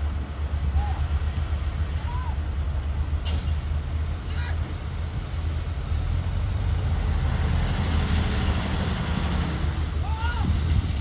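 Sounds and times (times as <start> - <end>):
heavy diesel machinery drone: 0.0 - 11.0.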